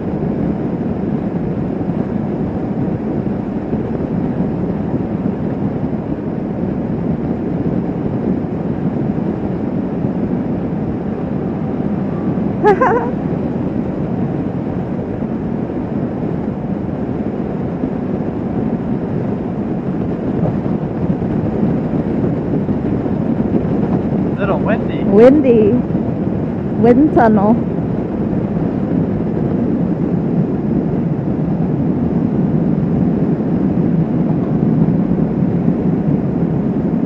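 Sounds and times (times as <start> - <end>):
wind rush and road rumble: 0.0 - 37.0.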